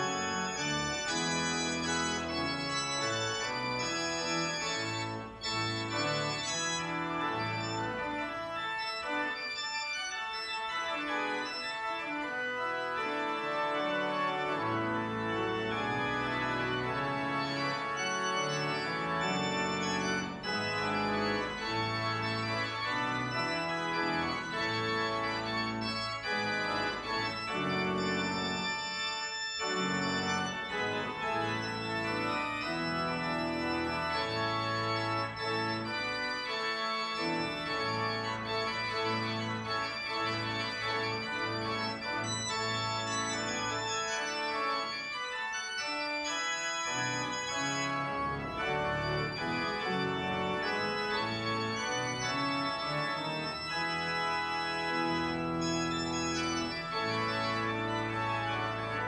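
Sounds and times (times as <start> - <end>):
organ playing chords: 0.0 - 59.0.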